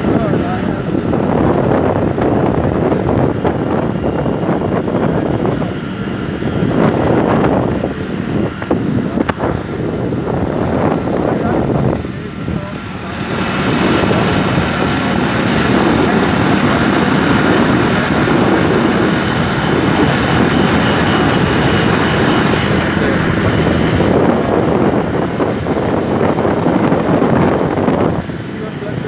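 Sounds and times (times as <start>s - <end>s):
motorbike engine: 0.0s - 29.0s
road noise: 0.0s - 29.0s
wind on microphone: 0.0s - 29.0s.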